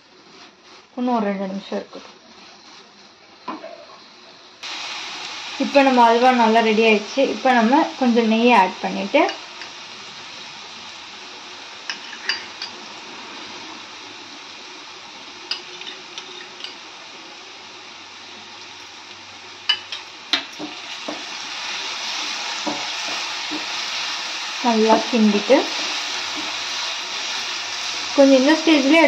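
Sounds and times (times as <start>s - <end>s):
food sizzling in ghee: 0.0s - 29.0s.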